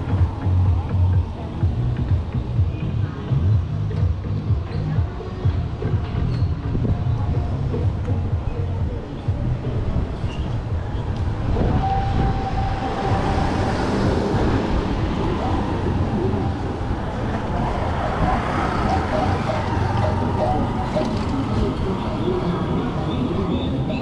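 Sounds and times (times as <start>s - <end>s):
traffic engines rumbling: 0.0s - 24.0s.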